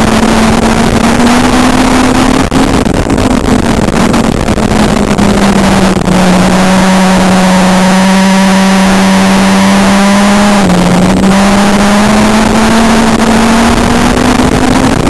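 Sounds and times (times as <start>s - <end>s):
dense wash of noise: 0.0s - 15.0s
race car engine running hard: 0.0s - 15.0s.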